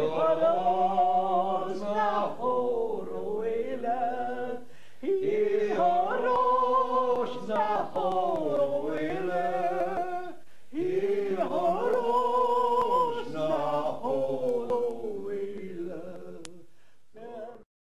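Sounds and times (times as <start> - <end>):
elderly woman singing: 0.0 - 16.6.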